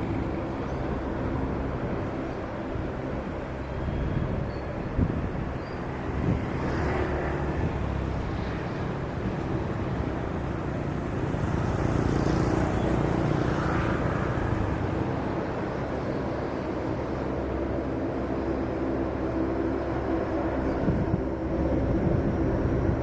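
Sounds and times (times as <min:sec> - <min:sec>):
distant jet engine rumble: 0:00.0 - 0:23.0
road traffic noise: 0:00.0 - 0:23.0.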